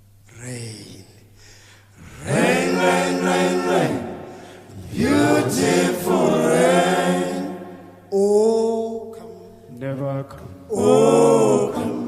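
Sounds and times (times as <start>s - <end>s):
choir singing a cappella: 2.0s - 12.0s.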